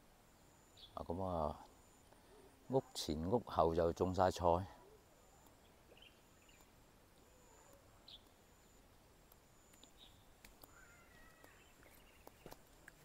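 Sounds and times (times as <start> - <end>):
faint bird chirps: 0.2 - 12.6.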